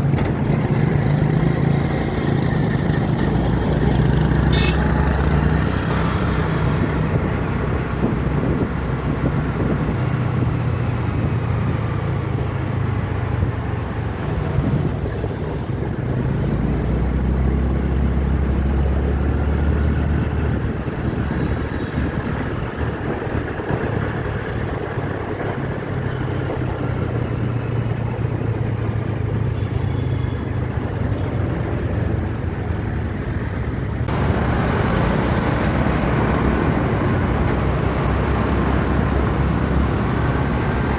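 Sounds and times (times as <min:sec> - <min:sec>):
low engine rumble: 0:06.0 - 0:40.9.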